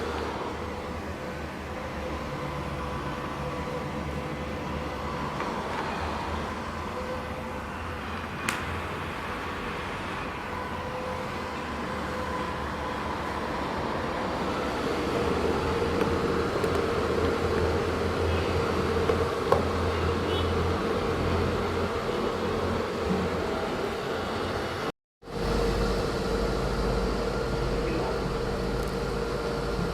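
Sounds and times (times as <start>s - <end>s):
small computer fan whirring: 0.0s - 29.9s.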